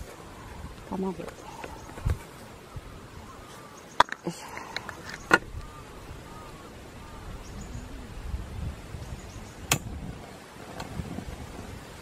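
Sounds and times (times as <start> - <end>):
faint bird chirps: 0.0 - 9.7
wind rumbling on microphone: 0.0 - 12.0.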